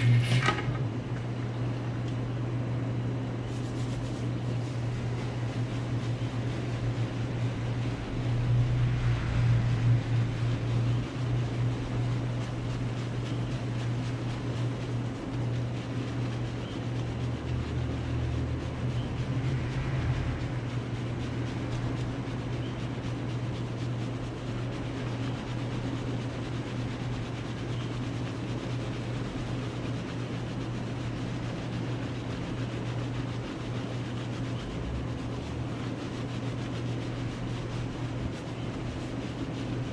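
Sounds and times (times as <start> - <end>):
low electric hum: 0.0 - 39.9.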